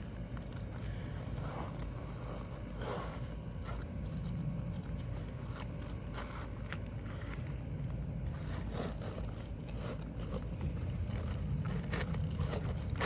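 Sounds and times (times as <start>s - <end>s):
scrapes and clicks under shingle: 0.3s - 13.0s.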